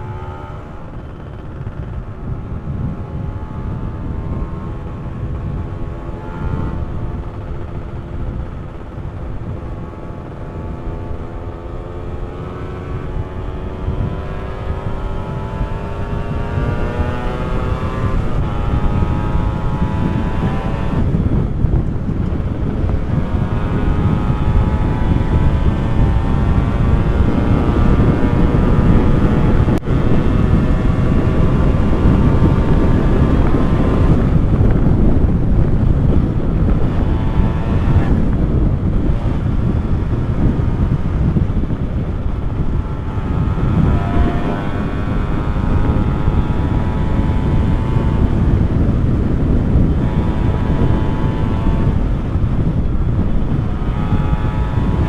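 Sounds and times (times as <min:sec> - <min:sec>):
two-stroke motorcycle engine running: 0:00.0 - 0:55.0
wind rumble on microphone: 0:00.0 - 0:55.0.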